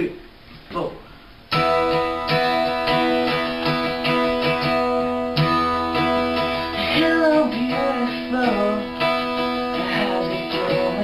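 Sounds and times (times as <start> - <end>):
guitar strumming chords: 1.5 - 11.0.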